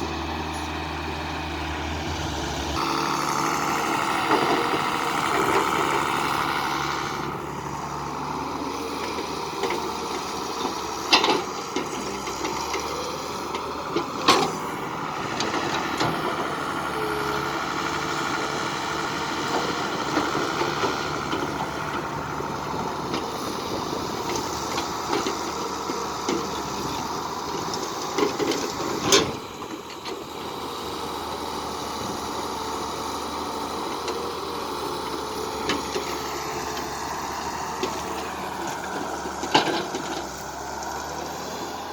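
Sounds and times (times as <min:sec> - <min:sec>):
engines running: 0:00.0 - 0:41.9.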